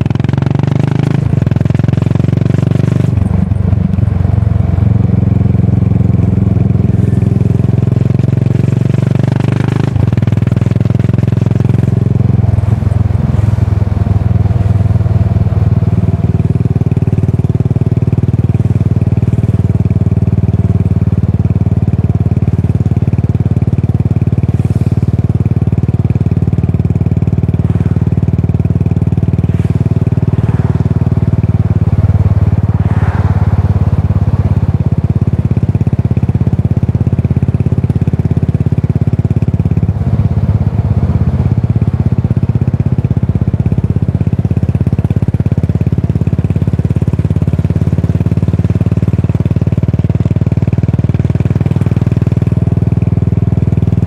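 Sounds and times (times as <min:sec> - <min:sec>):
motorcycle exhaust low note: 0:00.0 - 0:54.0.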